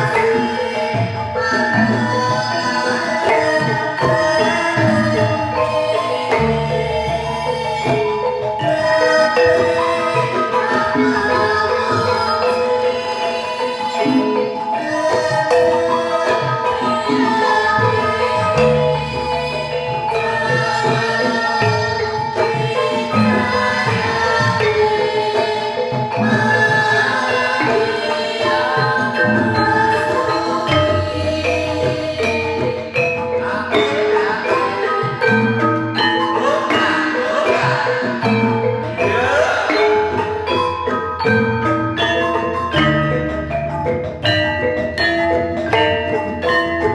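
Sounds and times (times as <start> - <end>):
drumming: 0.0 - 46.9
gamelan metal keys ringing: 0.0 - 46.9.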